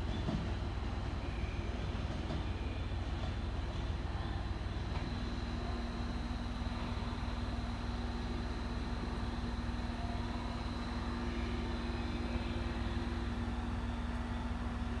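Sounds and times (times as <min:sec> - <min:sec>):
train electrical hum: 0:00.0 - 0:15.0.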